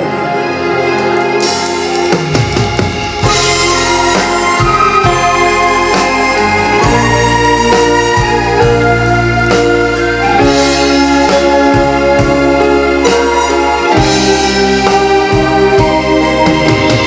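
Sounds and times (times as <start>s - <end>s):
instrumental song chords: 0.0s - 17.0s
steady drum beat: 1.0s - 17.0s.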